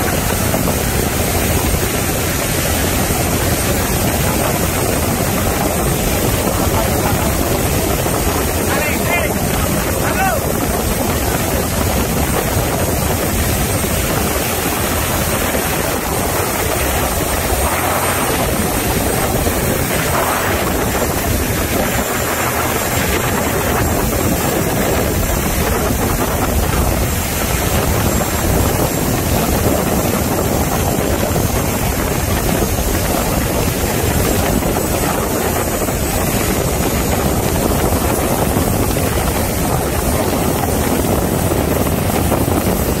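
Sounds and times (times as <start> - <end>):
motorboat engine drone: 0.0 - 43.0
rushing water: 0.0 - 43.0
wind: 0.0 - 43.0.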